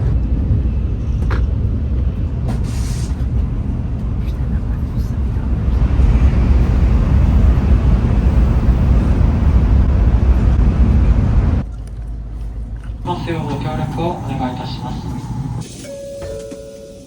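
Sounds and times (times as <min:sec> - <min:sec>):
high-speed train rumbling: 0:00.0 - 0:16.6.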